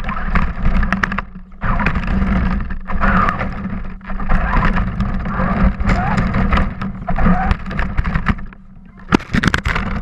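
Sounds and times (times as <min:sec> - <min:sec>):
toy truck motor hum: 0:00.0 - 0:09.2.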